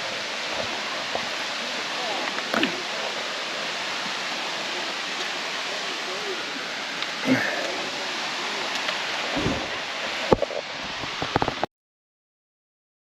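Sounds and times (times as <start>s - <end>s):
waterfall rushing: 0.0s - 11.7s.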